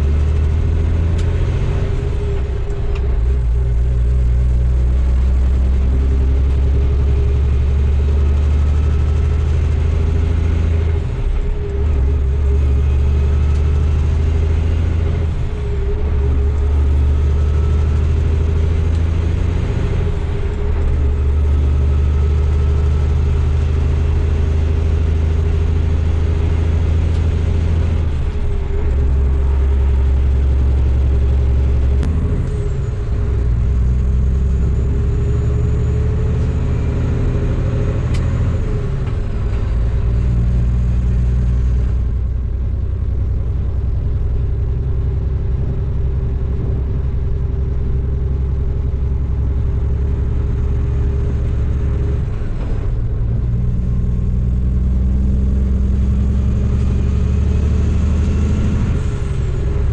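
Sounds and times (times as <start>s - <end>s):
diesel truck engine drone: 0.0s - 59.9s.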